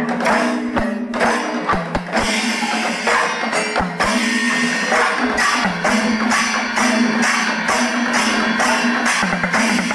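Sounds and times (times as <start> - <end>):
jingling percussion: 0.0 - 9.9.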